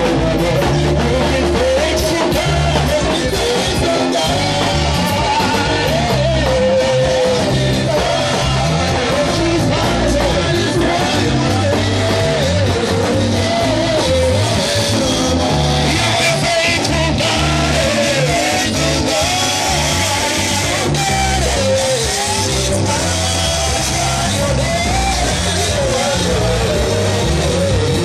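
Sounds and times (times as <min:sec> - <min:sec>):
singing with band backing: 0:00.0 - 0:28.0.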